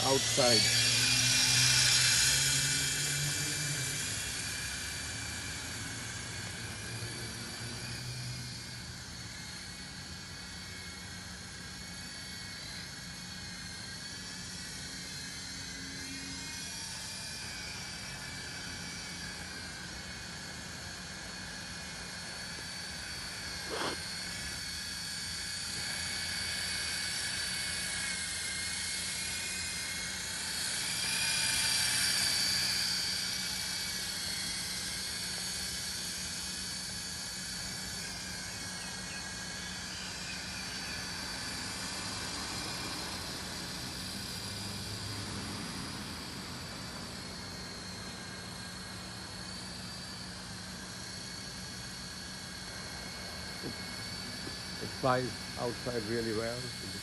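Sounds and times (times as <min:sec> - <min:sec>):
toy helicopter motor whine: 0:00.0 - 0:57.0.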